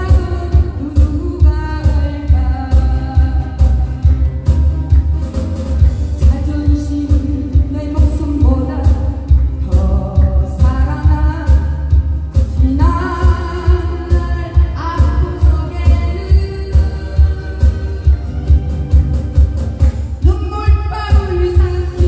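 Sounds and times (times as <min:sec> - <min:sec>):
woman singing into a microphone: 0:00.0 - 0:04.4, 0:06.1 - 0:19.0, 0:20.2 - 0:22.0
acoustic guitar: 0:00.0 - 0:22.0
steady low beat: 0:00.0 - 0:22.0.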